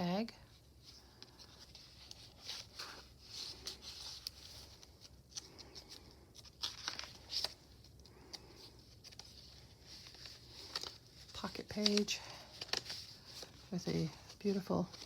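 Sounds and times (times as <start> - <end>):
paper pages rustling: 0.8 - 15.0.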